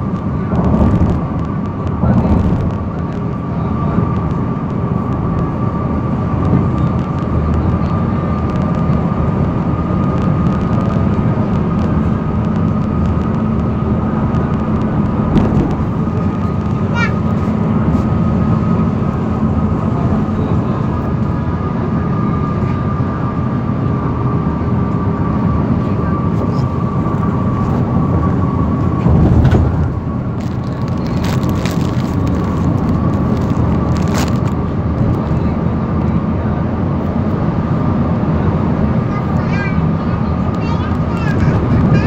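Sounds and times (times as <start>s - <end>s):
rushing noise: 0.0s - 35.4s
road and engine noise: 0.0s - 42.0s.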